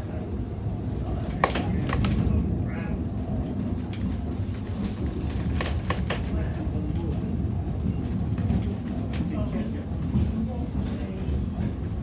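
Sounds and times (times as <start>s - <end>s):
railway carriage rumble: 0.0s - 12.0s.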